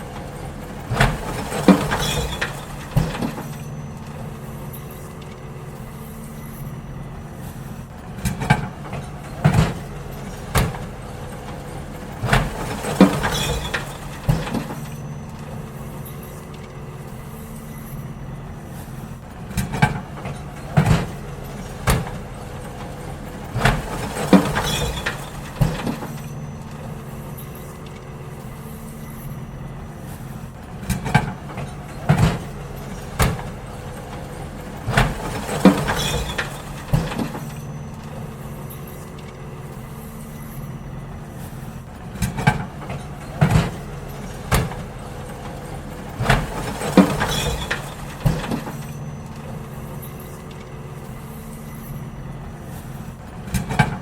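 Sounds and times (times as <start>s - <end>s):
bins clanking and banging: 0.0s - 54.0s
garbage truck engine running: 0.0s - 54.0s.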